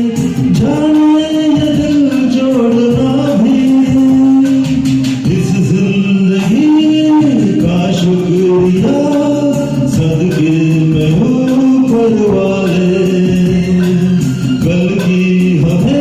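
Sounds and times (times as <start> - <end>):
film song instrumental backing track: 0.0 - 16.0.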